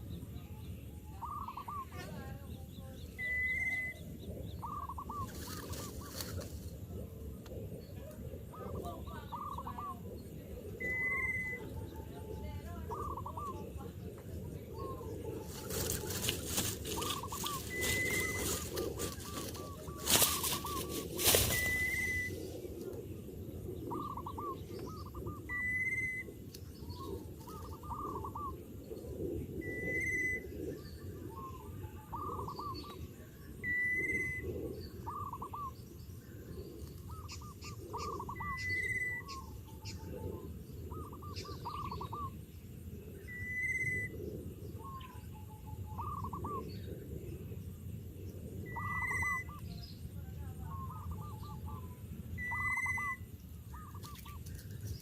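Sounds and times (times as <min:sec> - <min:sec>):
birds trilled chirps: 0:00.0 - 0:06.4, 0:07.8 - 0:55.0
steady low rumble: 0:00.0 - 0:55.0.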